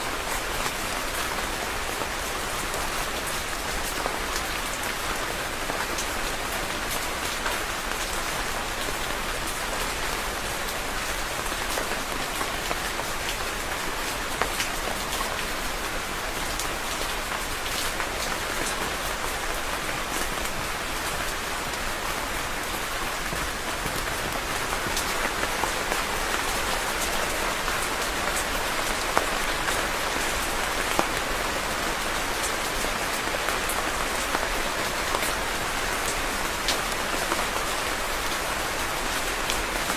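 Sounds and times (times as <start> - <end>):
rain falling on surface: 0.0 - 39.9.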